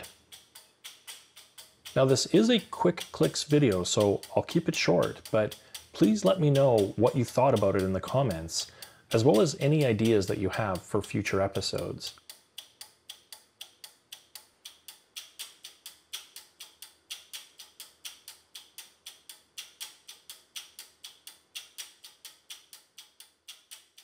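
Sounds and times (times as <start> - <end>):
relays clicking: 0.0 - 24.0.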